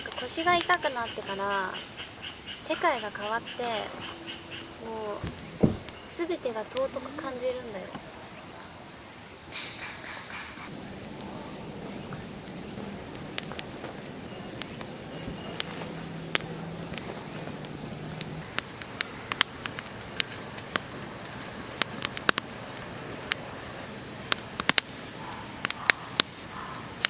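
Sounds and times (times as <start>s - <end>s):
campfire crackling and popping: 0.0s - 27.0s
insects chirring: 0.0s - 27.0s.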